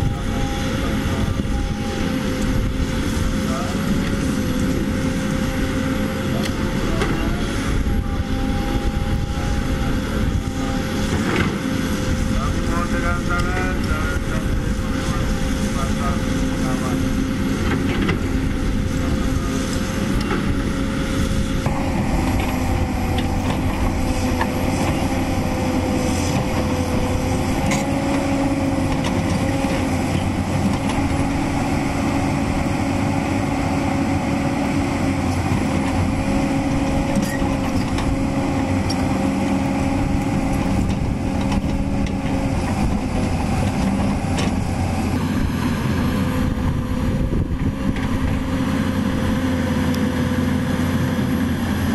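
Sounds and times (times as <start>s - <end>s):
excavator diesel engine: 0.0s - 51.9s
steady whine: 0.0s - 51.9s.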